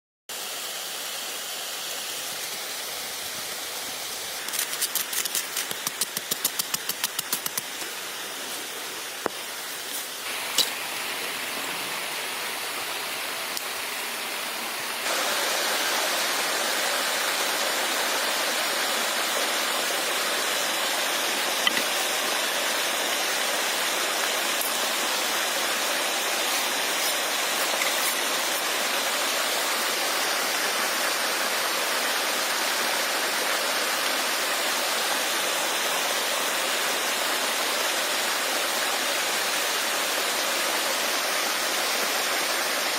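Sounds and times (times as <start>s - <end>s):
rushing hiss: 0.3s - 42.9s.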